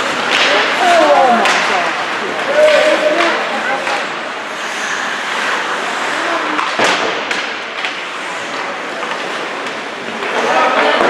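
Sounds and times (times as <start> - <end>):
arena noise: 0.0 - 11.0
skates scraping on ice: 0.0 - 11.0.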